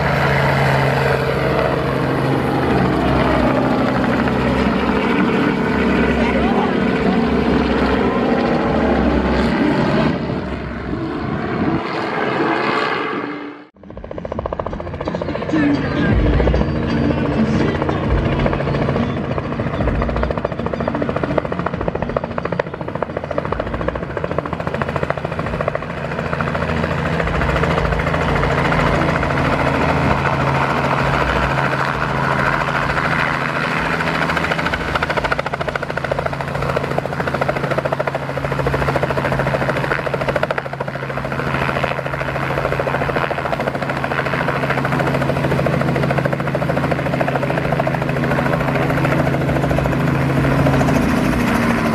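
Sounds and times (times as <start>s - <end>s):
helicopter engine and rotor drone: 0.0s - 51.9s.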